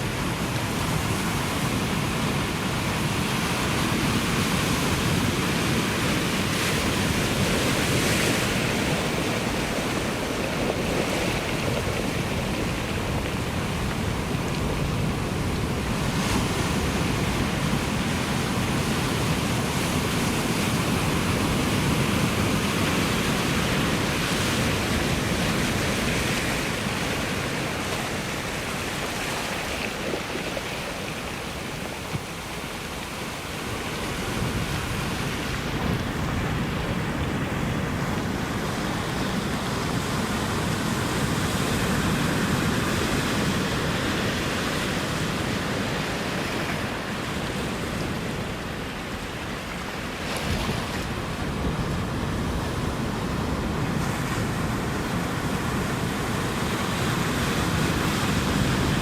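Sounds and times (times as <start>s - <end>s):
ocean surf washing ashore: 0.0s - 59.0s.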